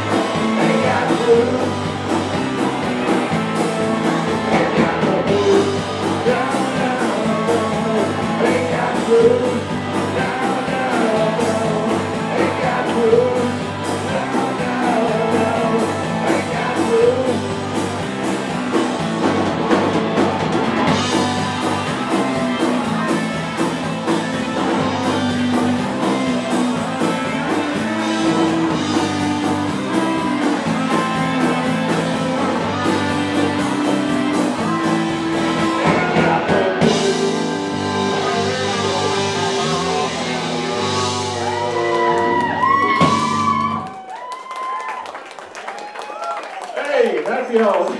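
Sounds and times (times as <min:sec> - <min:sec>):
steady drum beat: 0:00.0 - 0:43.8
guitar lines: 0:00.0 - 0:43.9
rock band playing: 0:00.0 - 0:46.7.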